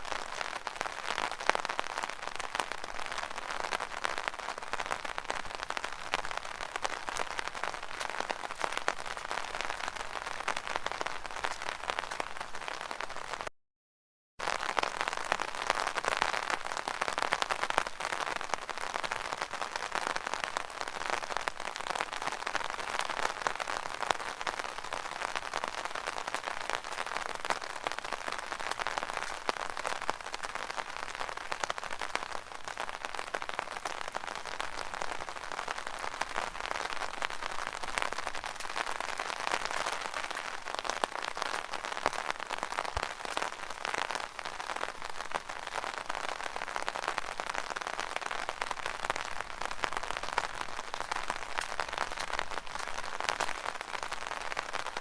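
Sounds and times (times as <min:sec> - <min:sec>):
rain on an umbrella: 0:00.0 - 0:13.5, 0:14.4 - 0:55.0.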